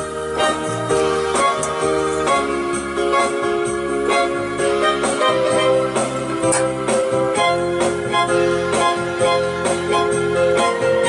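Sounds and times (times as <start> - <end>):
instrumental music with beat: 0.0 - 11.0.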